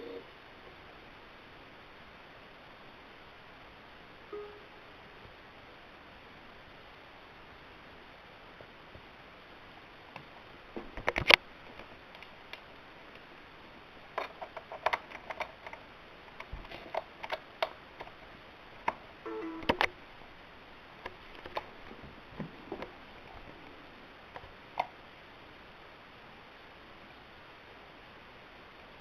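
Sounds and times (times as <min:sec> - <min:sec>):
steady hiss: 0:00.0 - 0:29.0.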